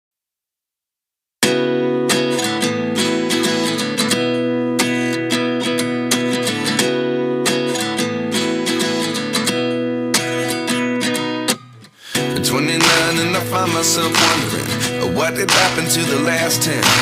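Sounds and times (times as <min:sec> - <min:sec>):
acoustic guitar strumming chords: 0:01.4 - 0:17.0.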